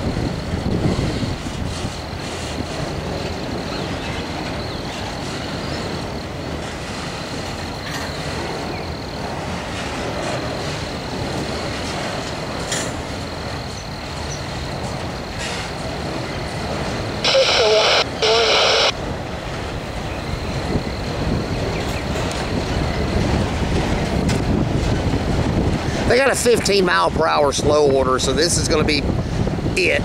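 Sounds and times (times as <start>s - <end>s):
steel wheels rumbling on rail: 0.0s - 30.0s.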